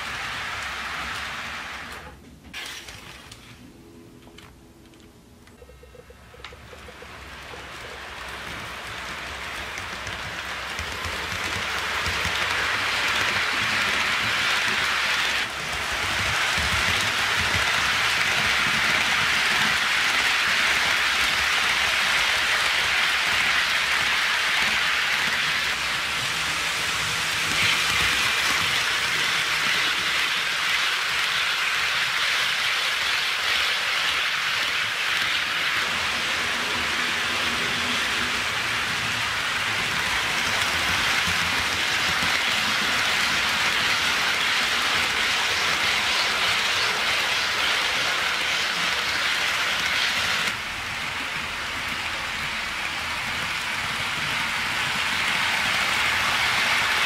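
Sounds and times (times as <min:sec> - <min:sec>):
model train wheels clattering on rails: 0:04.3 - 0:57.0.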